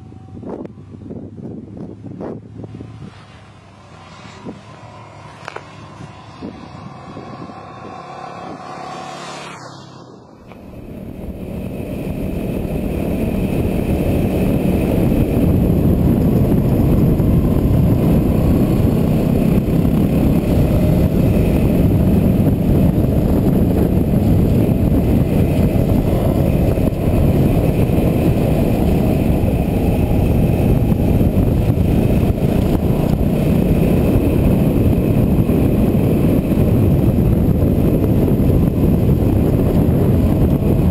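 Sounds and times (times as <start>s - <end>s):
motorcycle engine: 0.0s - 40.9s
wind rush on microphone: 0.0s - 40.9s.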